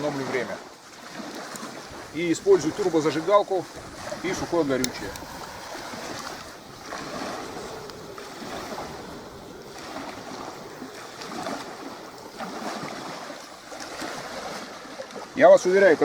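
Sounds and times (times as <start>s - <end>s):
small waves lapping at shore: 0.0s - 16.0s.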